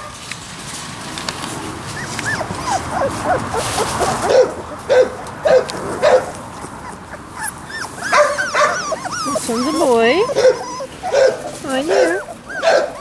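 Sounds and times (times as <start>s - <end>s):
puppies yelping: 1.7s - 13.0s
puppies whimpering and squealing: 1.8s - 13.0s.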